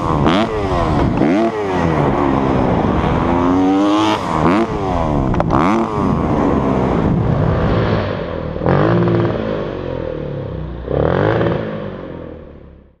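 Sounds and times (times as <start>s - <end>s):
dirt bike engine revving: 0.0s - 12.6s.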